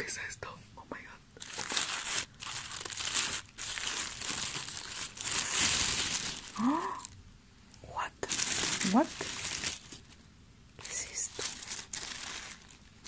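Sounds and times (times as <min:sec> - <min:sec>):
tissue paper crinkling: 0:01.4 - 0:07.2, 0:08.2 - 0:13.0.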